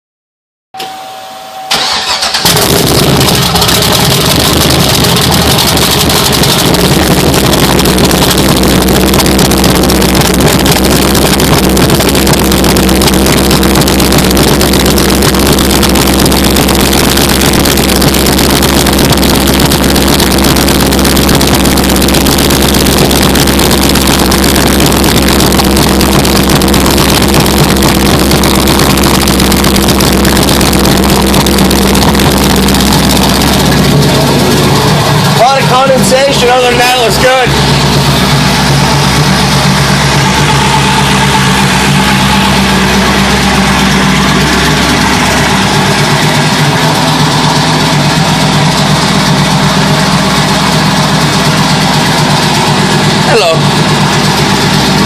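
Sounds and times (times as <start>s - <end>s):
car engine idling: 1.7s - 55.0s
starter motor whine: 1.7s - 55.0s.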